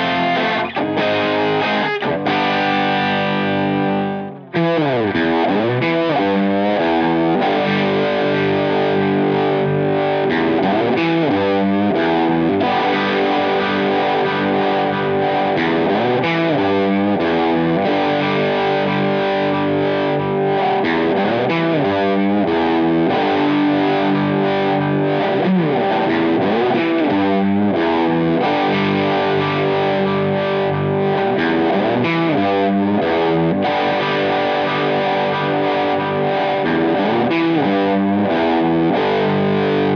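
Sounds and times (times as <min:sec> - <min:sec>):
distorted electric guitar riff: 0:00.0 - 0:39.9.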